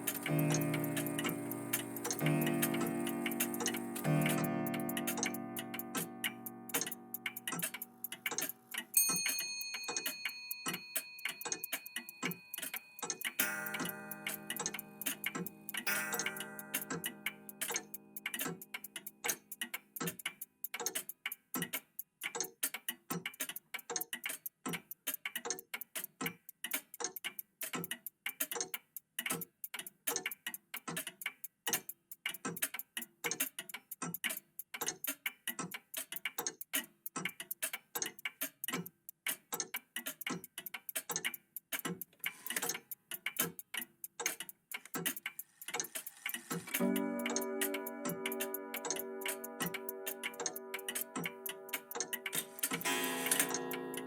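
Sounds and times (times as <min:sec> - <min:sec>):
mechanical clocks ticking: 0:00.0 - 0:54.0.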